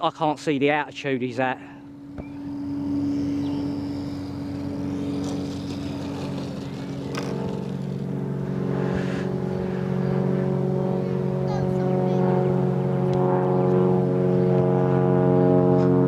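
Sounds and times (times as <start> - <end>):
propeller aircraft flying over: 0.0 - 16.0.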